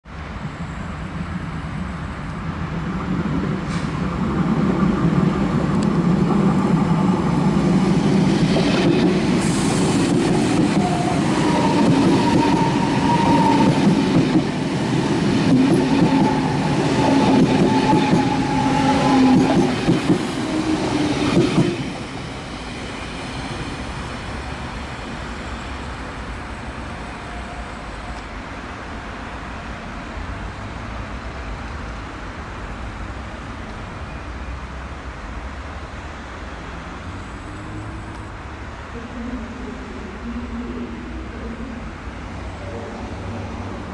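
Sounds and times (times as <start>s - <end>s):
train wheels rumbling on rails: 0.2s - 36.0s.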